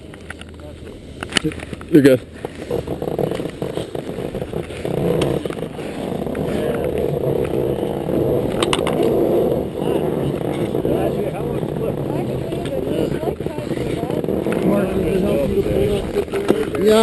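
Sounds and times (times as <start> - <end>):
ski scraping over packed snow: 0.0 - 17.0.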